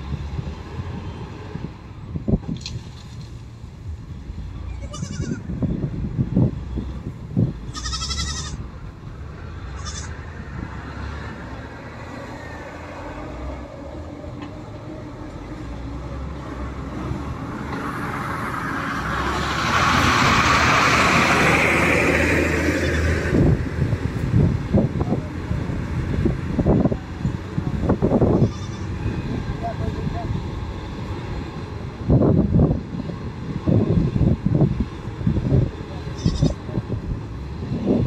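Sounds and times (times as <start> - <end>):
rushing noise: 0.0 - 38.0
wheel loader diesel engine: 5.8 - 38.0.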